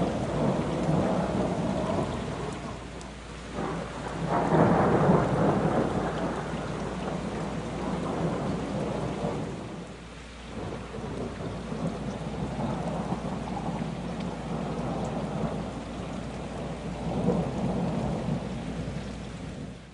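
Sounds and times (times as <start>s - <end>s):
steady rain: 0.0s - 19.9s
thunder rumbling: 0.0s - 19.9s.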